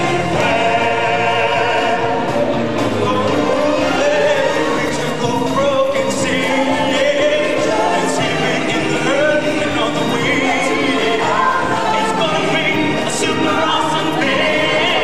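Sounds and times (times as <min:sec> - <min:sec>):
amplified stage show singing: 0:00.0 - 0:15.0.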